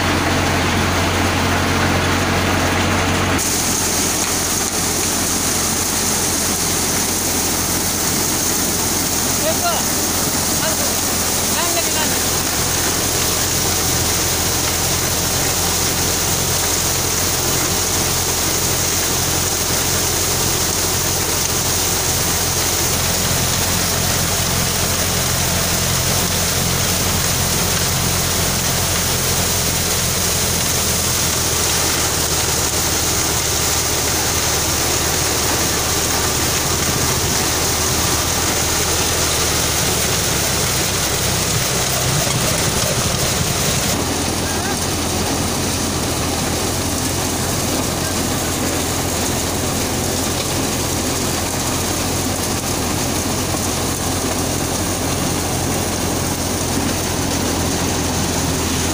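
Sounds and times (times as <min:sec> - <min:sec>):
threshing machine running: 0:00.0 - 0:58.9.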